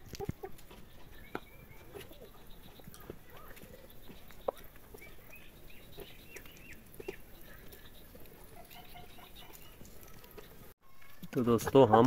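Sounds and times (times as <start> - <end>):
pattering and scratching on ground: 0.0 - 12.0
high chirping bird calls: 0.8 - 11.3.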